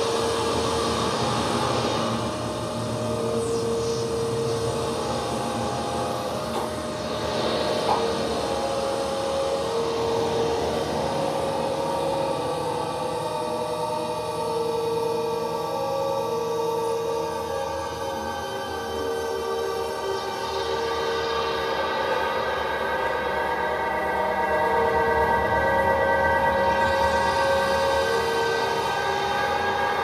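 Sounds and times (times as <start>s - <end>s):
dense rushing drone noise: 0.0s - 30.0s.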